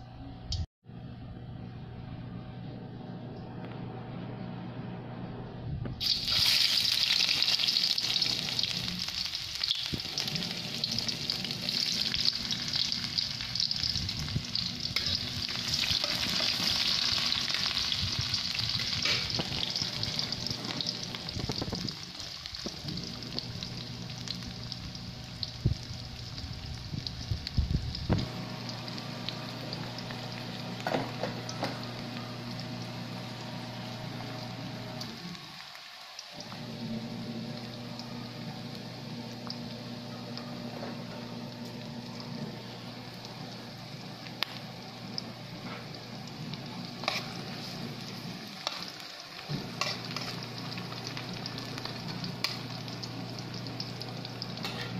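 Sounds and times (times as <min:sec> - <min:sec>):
onion sizzling in hot oil: 0:06.0 - 0:40.7, 0:41.3 - 0:54.9.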